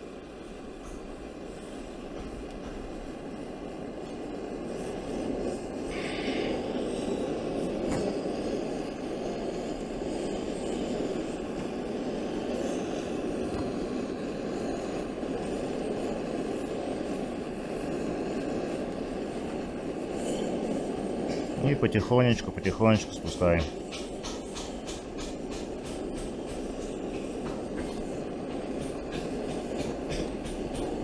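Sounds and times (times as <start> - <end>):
gas burner flame rushing: 0.0 - 31.0.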